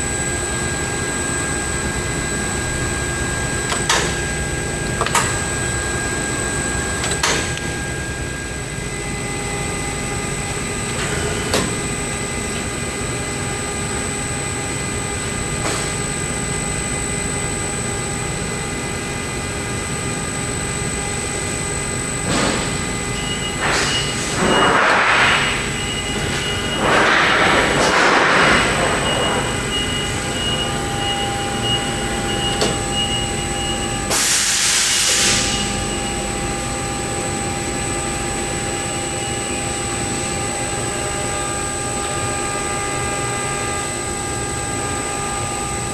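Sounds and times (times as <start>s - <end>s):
bending machine hum and whine: 0.0s - 45.9s.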